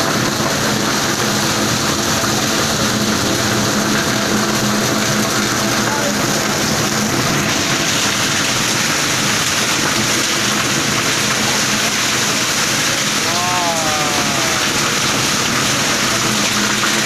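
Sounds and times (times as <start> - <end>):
heavy rain pouring on road: 0.0 - 17.0.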